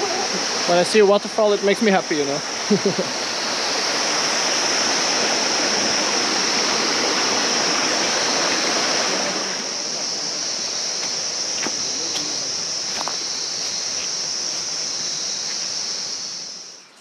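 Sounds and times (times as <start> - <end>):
waterfall splashing: 0.0 - 16.7
high insect buzz: 0.0 - 17.0.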